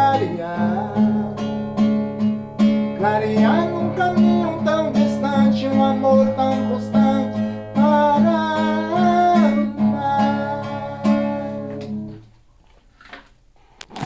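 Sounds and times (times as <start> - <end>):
acoustic guitar strumming: 0.0 - 12.4.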